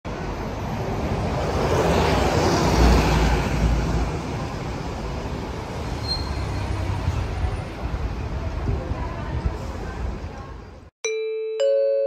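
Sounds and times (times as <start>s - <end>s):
road noise: 0.0s - 10.9s
bus engine: 0.1s - 10.9s.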